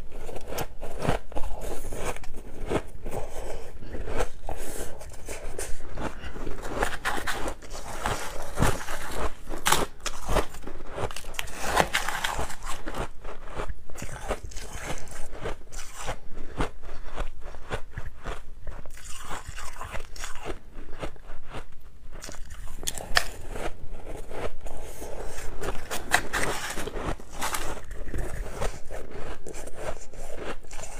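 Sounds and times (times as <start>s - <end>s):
ice being chewed: 0.1s - 30.9s.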